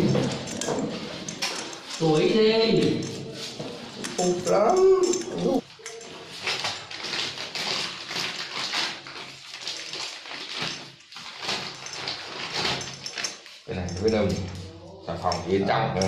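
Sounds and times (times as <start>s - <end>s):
tape rustling and scratching: 0.0s - 16.0s.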